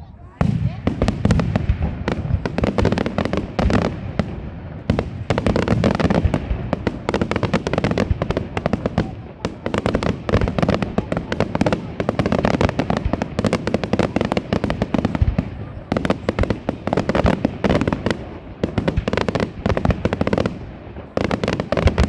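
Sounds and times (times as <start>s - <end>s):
fireworks cracks and bursts: 0.4s - 22.0s.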